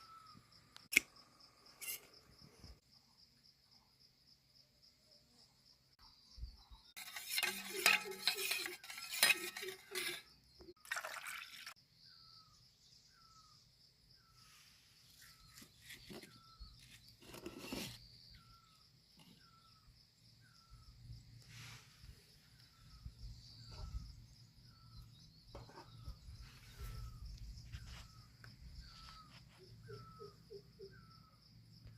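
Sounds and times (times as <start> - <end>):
insect trill: 0.0 - 31.9.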